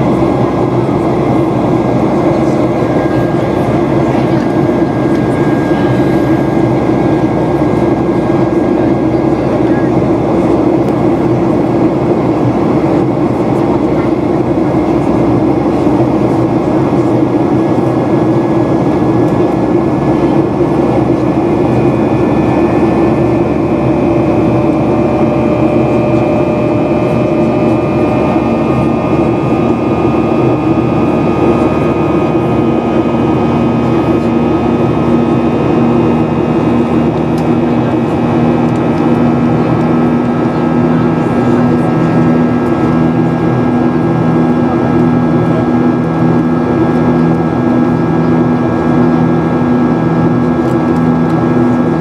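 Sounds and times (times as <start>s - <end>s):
aircraft cabin engine rumble: 0.0s - 52.0s
faint whining engine tones: 0.0s - 52.0s.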